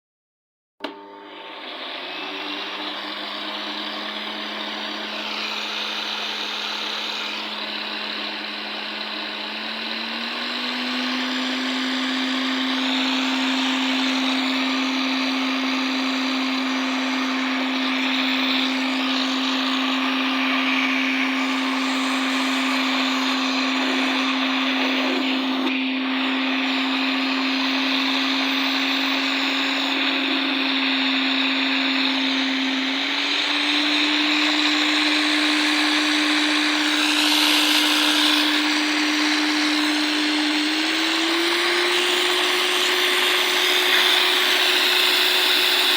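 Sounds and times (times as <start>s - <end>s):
vacuum motor whine: 0.8s - 45.9s.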